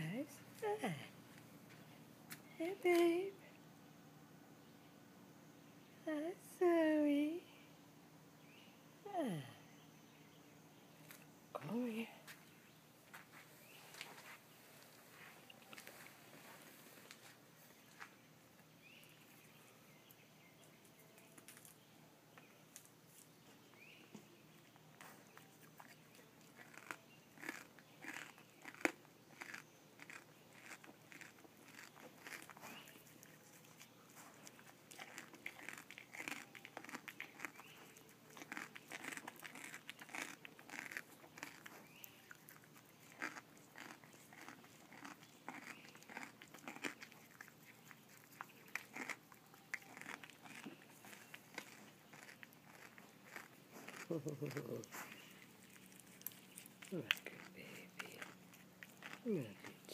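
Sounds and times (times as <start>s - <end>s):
deer chewing and crunching food: 0.3s - 3.1s, 10.9s - 59.9s.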